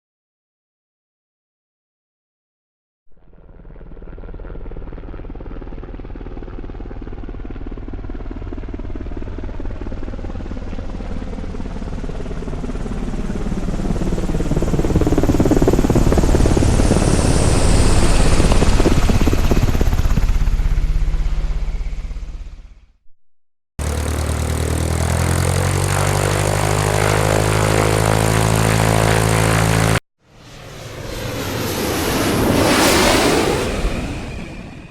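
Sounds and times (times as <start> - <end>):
aircraft engine flying past: 3.2 - 22.8, 23.8 - 34.9.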